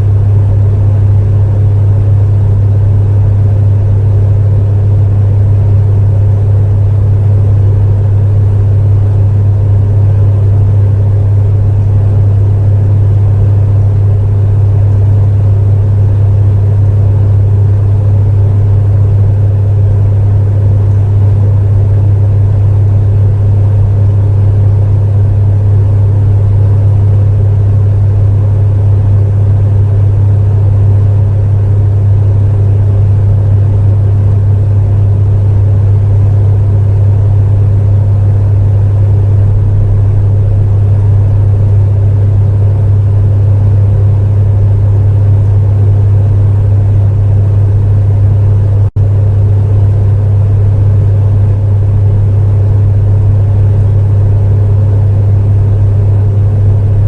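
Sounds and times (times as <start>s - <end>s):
airy fan whir: 0.0s - 57.0s
space heater humming: 0.0s - 57.0s.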